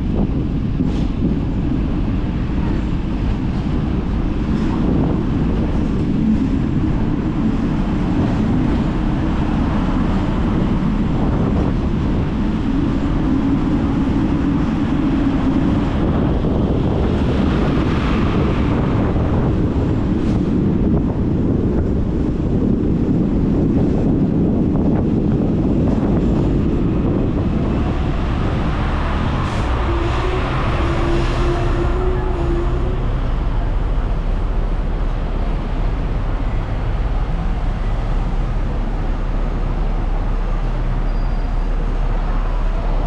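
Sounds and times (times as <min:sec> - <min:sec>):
tram rumbling: 0:00.0 - 0:43.0
wind buffeting microphone: 0:00.0 - 0:43.0.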